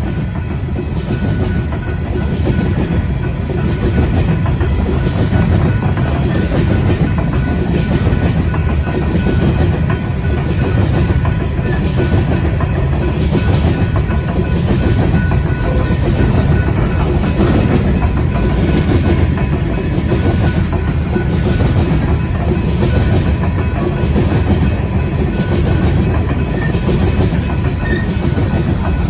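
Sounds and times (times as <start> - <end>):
rhythmic clickety-clack: 0.0 - 29.0
train wheels rumbling on rail: 0.0 - 29.0.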